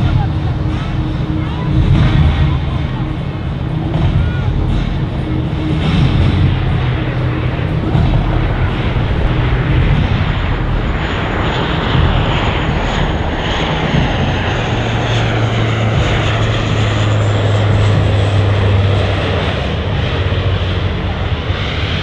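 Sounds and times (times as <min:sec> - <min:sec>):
deep propeller drone: 0:00.0 - 0:22.0
high turbine whine: 0:00.0 - 0:22.0.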